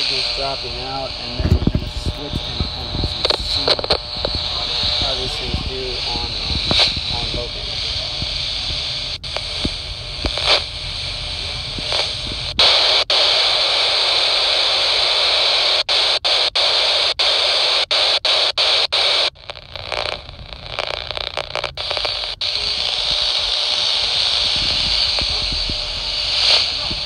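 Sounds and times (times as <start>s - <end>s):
scanner static hiss: 0.0s - 27.0s.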